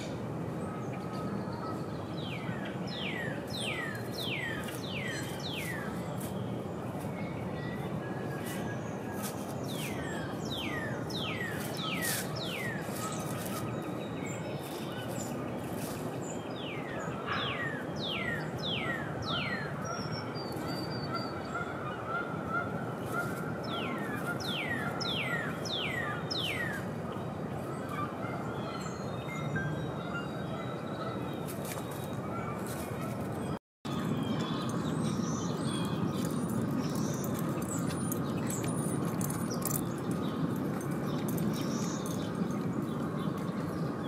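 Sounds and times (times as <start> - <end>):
steady background noise: 0.0 - 44.0.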